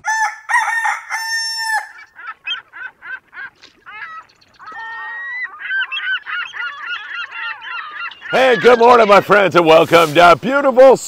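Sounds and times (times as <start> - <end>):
birds calling: 0.0 - 10.9.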